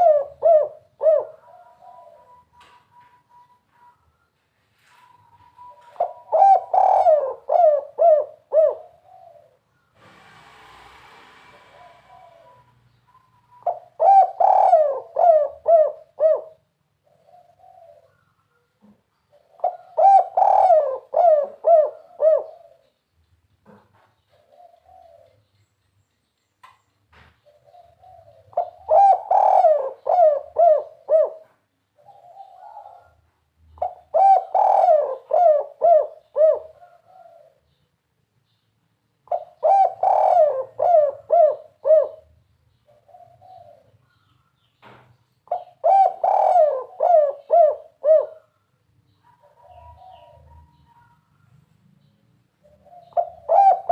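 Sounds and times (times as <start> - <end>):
dove cooing: 0.0 - 9.7, 11.6 - 23.0, 23.6 - 25.5, 27.4 - 37.8, 39.2 - 44.3, 45.4 - 51.2, 52.6 - 53.9.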